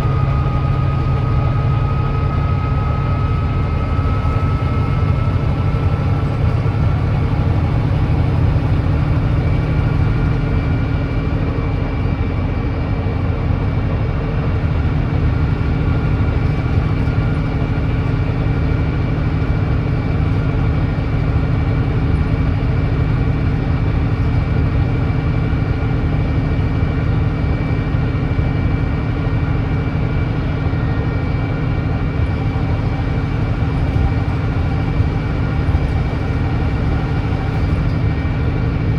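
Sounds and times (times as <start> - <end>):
bus diesel engine droning: 0.0 - 38.9.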